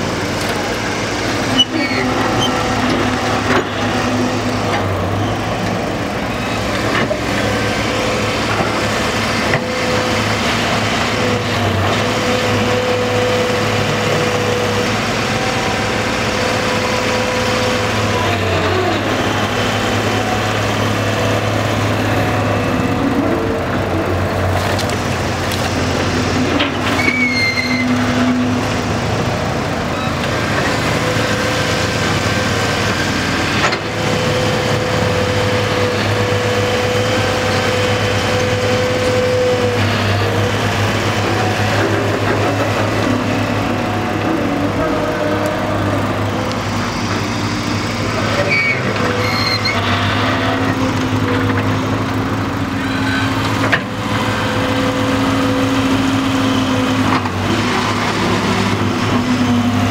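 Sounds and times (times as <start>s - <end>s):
excavator diesel engine running: 0.0s - 59.9s
hydraulic whine: 0.0s - 59.9s.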